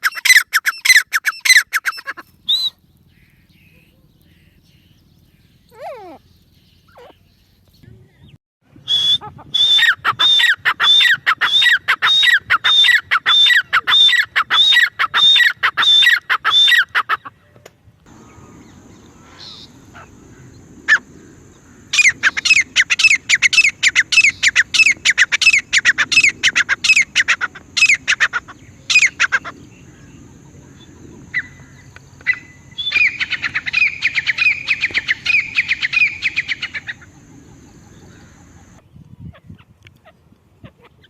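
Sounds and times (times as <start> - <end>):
bird calling rapidly: 0.0 - 7.7, 8.8 - 17.4, 19.1 - 30.0, 30.7 - 41.0.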